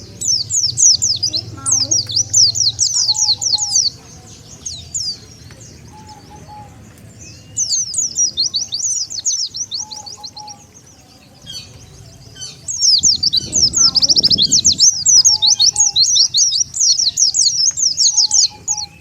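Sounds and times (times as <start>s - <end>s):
bird twittering song: 0.0s - 19.0s.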